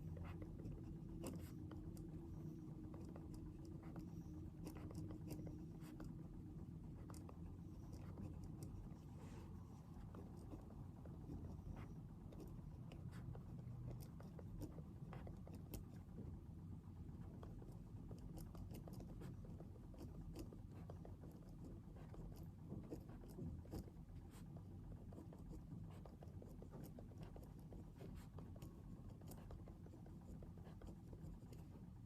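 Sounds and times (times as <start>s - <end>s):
pencil writing on paper: 0.0s - 16.3s, 17.2s - 32.0s
low room hum: 0.0s - 32.0s.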